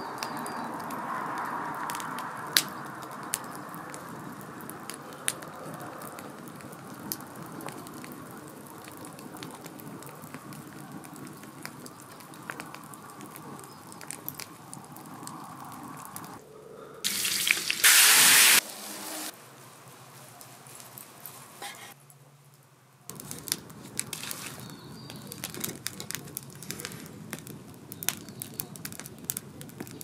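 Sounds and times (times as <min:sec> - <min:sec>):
charcoal fire crackling: 0:00.0 - 0:16.4, 0:17.0 - 0:30.0.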